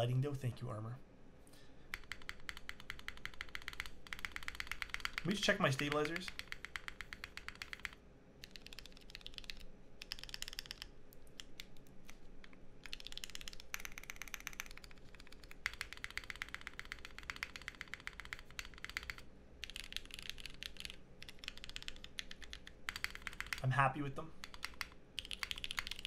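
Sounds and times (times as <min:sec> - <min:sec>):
mechanical keyboard typing: 0:01.9 - 0:26.0.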